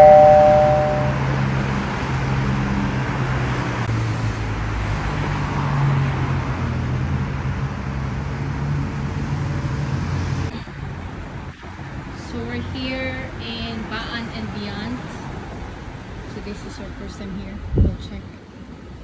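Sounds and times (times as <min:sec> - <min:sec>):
low vehicle engine hum: 0:00.0 - 0:18.4
road noise: 0:00.0 - 0:19.0.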